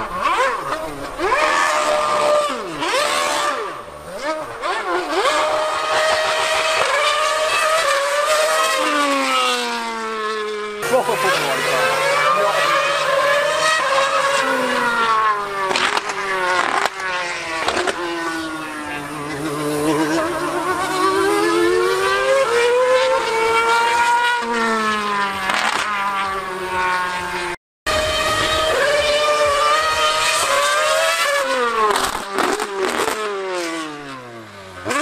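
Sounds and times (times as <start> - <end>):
racing car engine screaming: 0.0 - 10.2, 10.8 - 34.2.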